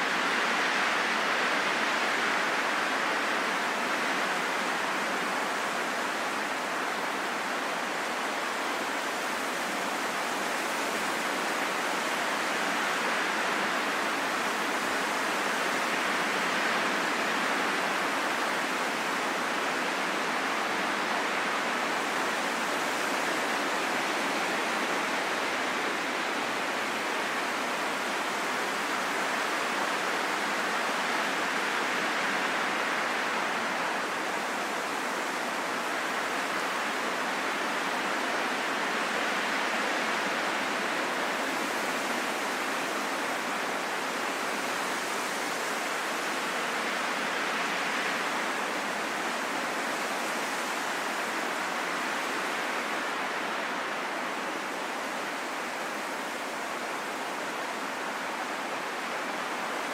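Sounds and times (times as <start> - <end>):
steady rain in a forest: 0.0 - 59.9.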